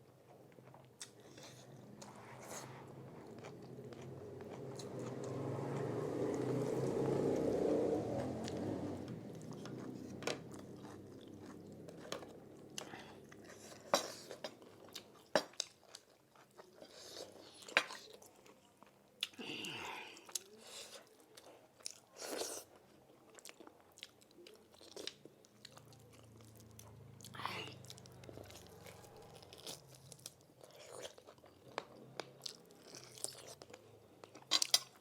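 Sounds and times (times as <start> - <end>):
person chewing crunchy food: 0.1 - 6.2, 9.2 - 19.4, 20.2 - 35.0.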